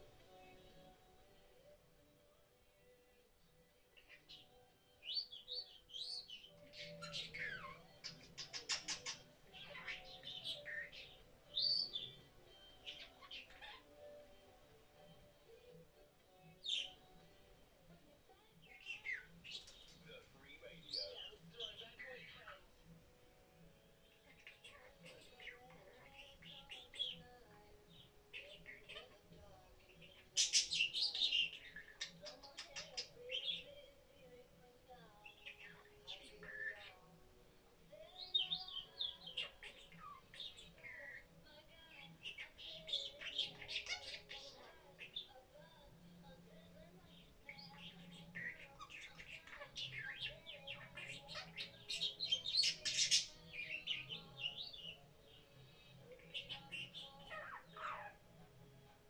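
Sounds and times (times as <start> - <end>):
budgerigar warbling and chirping: 3.9 - 15.3, 16.4 - 17.2, 18.6 - 22.8, 23.4 - 33.8, 35.2 - 37.1, 38.0 - 45.8, 46.9 - 58.3.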